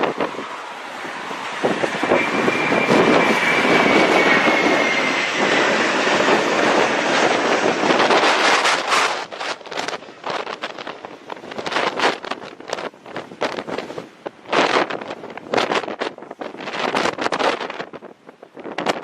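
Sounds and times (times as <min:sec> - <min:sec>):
airplane engines passing: 0:00.0 - 0:19.0.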